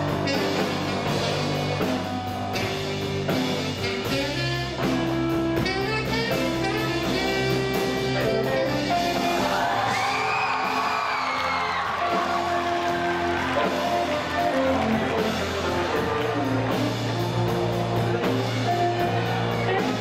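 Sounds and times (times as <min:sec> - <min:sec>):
blues band playing: 0:00.0 - 0:20.0
saxophone: 0:00.0 - 0:20.0.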